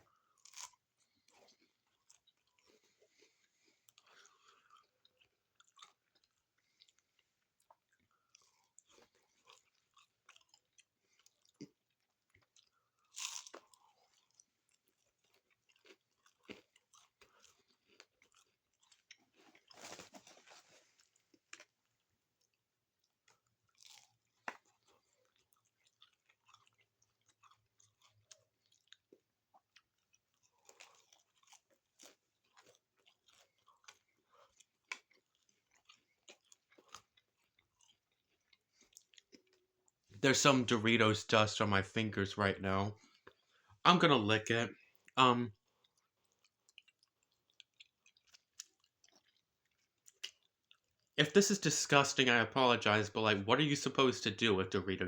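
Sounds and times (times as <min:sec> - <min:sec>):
chewing crunchy taco shell: 0:00.0 - 0:40.2, 0:42.5 - 0:53.4.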